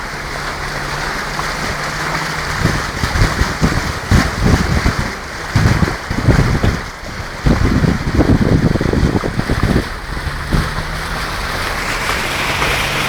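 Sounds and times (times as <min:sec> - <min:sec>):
engine hum: 0:00.0 - 0:13.0
wind buffeting microphone: 0:00.0 - 0:13.0.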